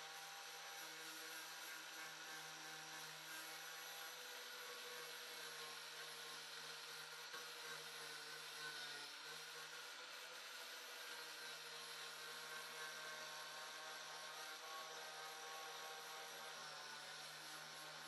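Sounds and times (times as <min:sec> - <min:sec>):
angle grinder grinding metal: 0:00.0 - 0:18.0.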